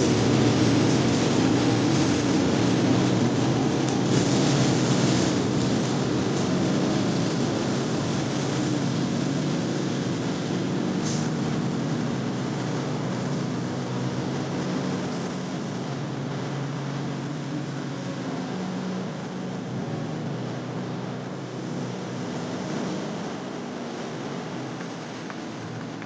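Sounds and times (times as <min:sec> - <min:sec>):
diesel locomotive engine humming: 0:00.0 - 0:26.0.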